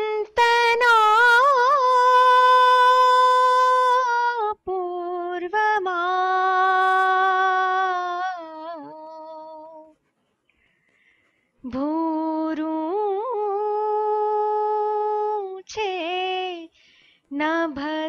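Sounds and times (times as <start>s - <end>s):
woman singing unaccompanied: 0.0s - 9.9s, 11.6s - 18.0s.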